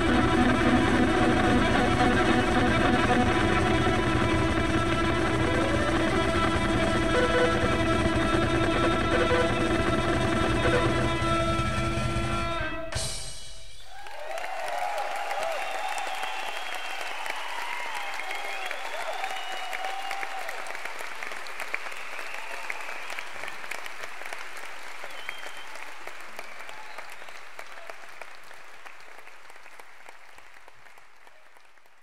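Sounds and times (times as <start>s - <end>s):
audience applauding: 0.0s - 11.2s, 13.8s - 32.0s
crowd cheering and whistling: 0.0s - 11.2s, 13.5s - 31.4s.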